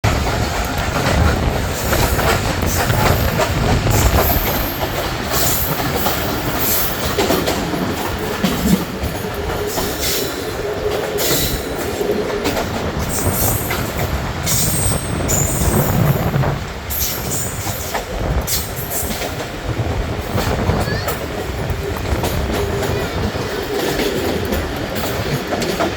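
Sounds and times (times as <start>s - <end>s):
train wheels clattering over rail joints: 0.1s - 25.9s.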